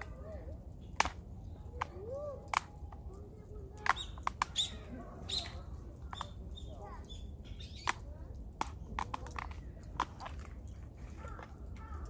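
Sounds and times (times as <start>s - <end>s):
sharp snaps and clicks: 0.0s - 12.0s
small birds chirping: 0.0s - 12.0s.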